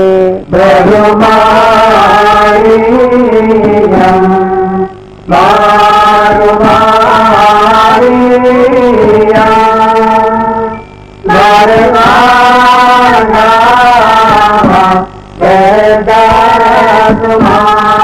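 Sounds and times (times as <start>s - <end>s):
person singing chant-like melody: 0.0s - 18.0s.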